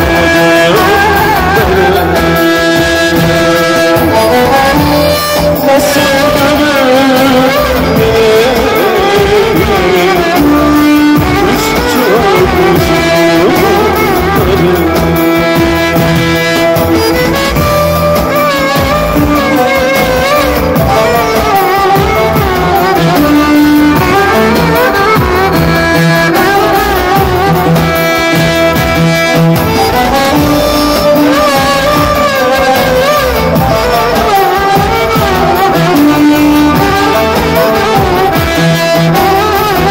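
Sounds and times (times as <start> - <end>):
held keyboard notes: 0.0 - 39.9
repeating bass line: 0.0 - 39.9
violin melody: 0.0 - 39.9.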